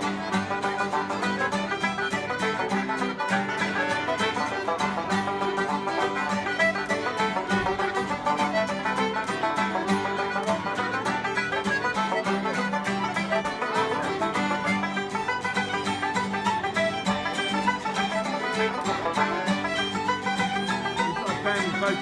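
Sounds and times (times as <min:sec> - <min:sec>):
folk band playing dance tune: 0:00.0 - 0:22.0.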